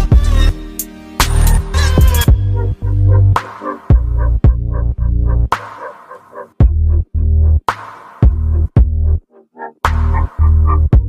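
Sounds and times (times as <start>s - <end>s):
electronic hip-hop music: 0.0s - 11.0s.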